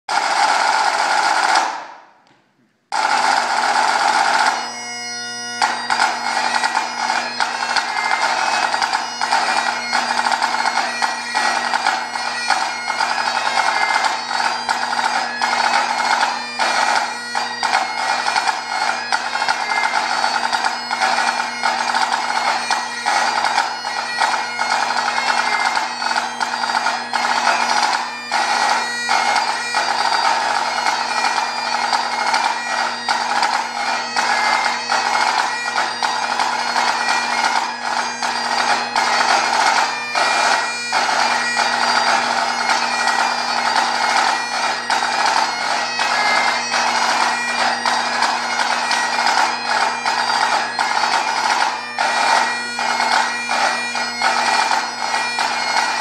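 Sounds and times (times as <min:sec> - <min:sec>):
bagpipe chanter playing lively tune: 0:00.1 - 0:01.8, 0:02.9 - 0:56.0
bagpipe drones: 0:02.9 - 0:56.0.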